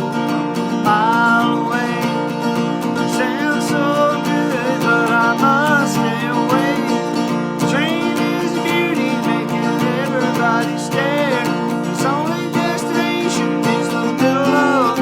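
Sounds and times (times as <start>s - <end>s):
sliding guitar melody: 0.0s - 15.0s
strummed acoustic guitar country music: 0.0s - 15.0s.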